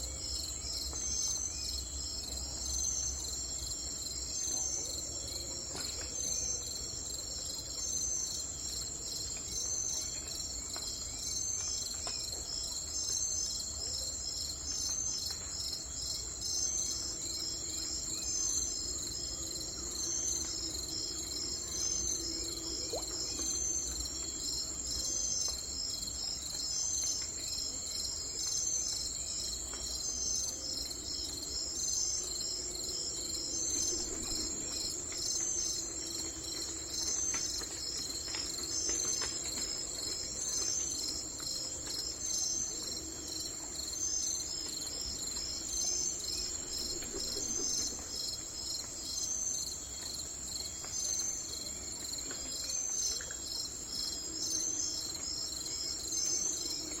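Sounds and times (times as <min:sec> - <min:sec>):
insects chirring: 0:07.8 - 0:57.0.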